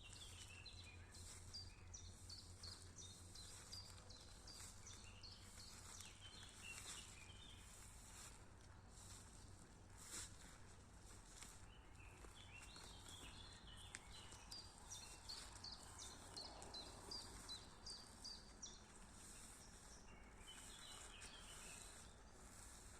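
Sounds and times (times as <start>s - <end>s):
faint songbird chirping: 0.0s - 22.9s
low steady background rumble: 0.0s - 22.9s.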